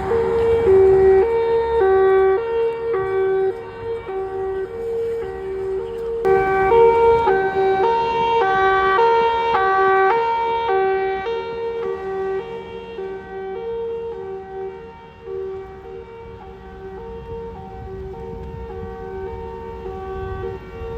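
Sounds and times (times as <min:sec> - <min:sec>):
emergency siren hi-lo: 0:00.0 - 0:20.9.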